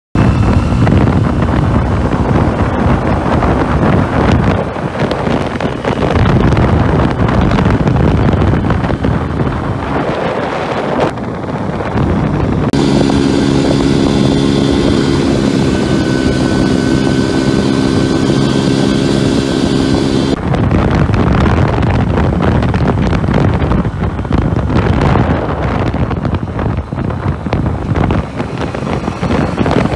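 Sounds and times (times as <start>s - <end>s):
motorcycle engine running: 0.2s - 29.9s
wind buffeting on microphone: 0.2s - 29.9s.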